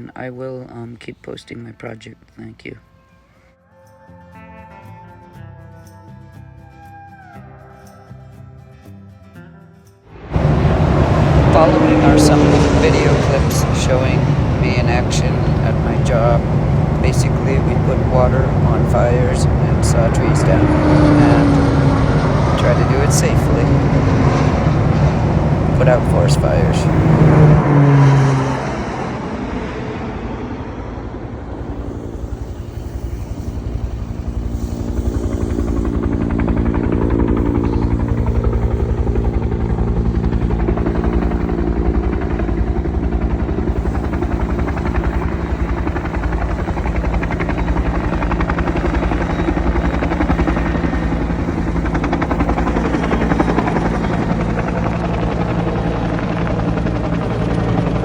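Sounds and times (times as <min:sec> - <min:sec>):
helicopter rotor and engine: 0:10.2 - 0:58.0.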